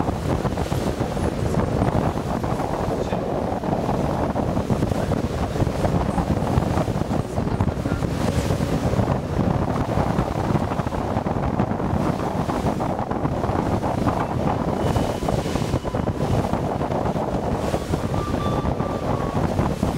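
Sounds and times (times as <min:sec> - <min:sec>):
rush of the sea: 0:00.0 - 0:19.9
wind buffeting microphone: 0:00.0 - 0:19.9.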